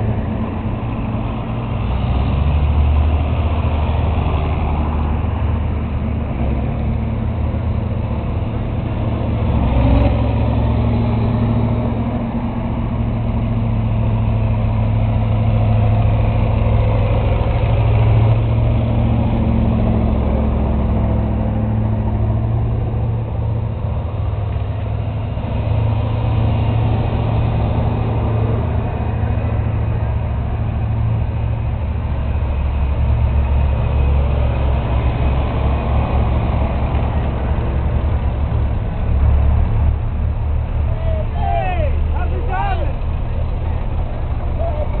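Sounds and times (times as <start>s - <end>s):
tractor engines running: 0.0s - 45.0s.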